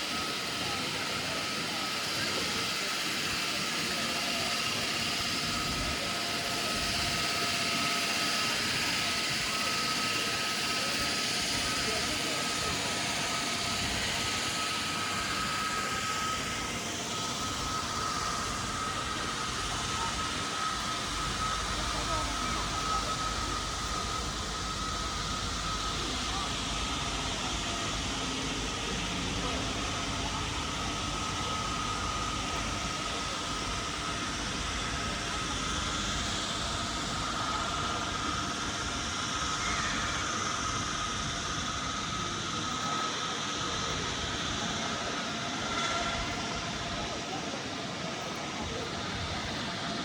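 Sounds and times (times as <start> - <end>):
busy street din: 0.0 - 50.0
constant thin whine: 0.0 - 50.0
faint steady high tone: 0.1 - 50.0.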